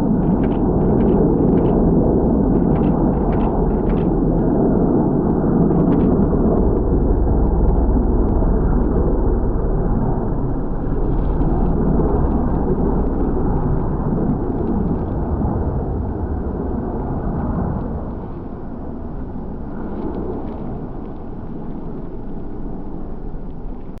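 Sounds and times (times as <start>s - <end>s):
turboprop engines rumbling: 0.0s - 24.0s.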